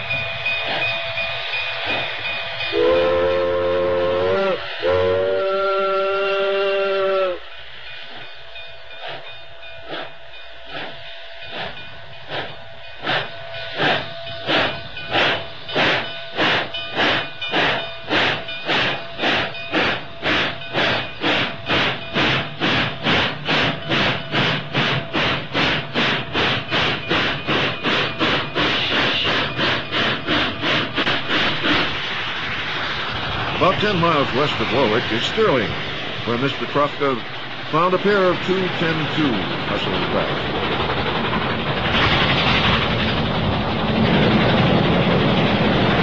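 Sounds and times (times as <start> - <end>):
steam hissing: 0.0 - 46.0
steam locomotive exhaust chuffs: 0.0 - 46.0.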